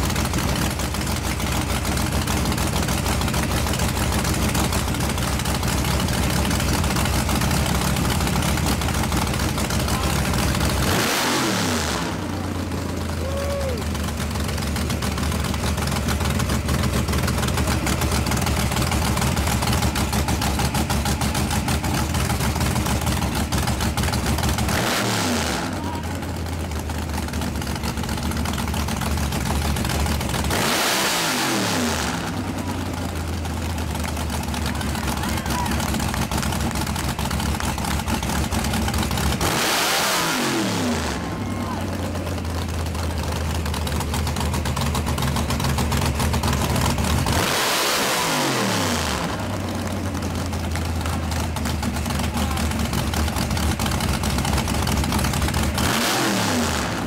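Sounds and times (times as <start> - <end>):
drag car engine revving: 0.0 - 57.0.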